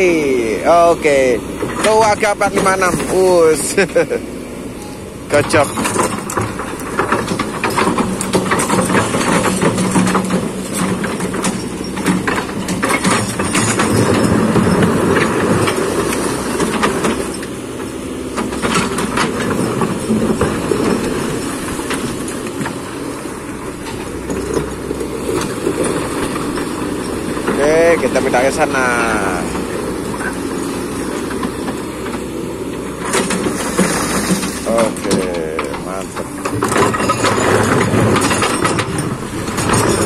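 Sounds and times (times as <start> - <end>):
bucket clanking and scraping rock: 0.0 - 4.2, 5.3 - 40.0
excavator diesel engine: 0.0 - 40.0.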